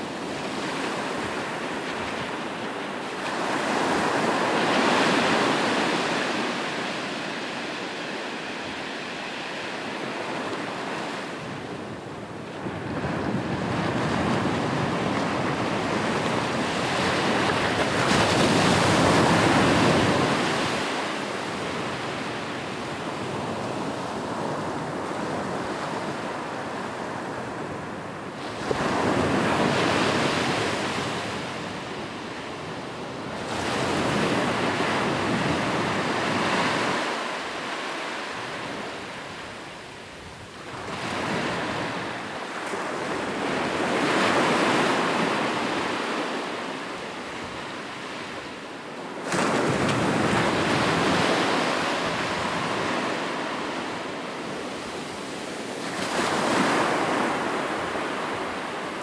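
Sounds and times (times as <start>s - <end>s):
ocean waves breaking on shore: 0.0s - 11.7s, 12.3s - 59.0s.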